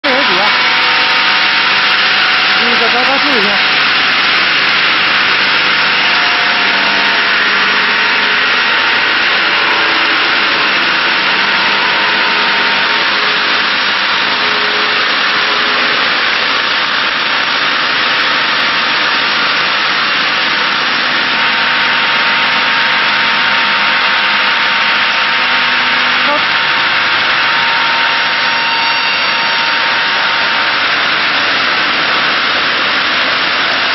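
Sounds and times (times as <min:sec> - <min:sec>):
circular saw blades sawing: 0:00.0 - 0:33.9.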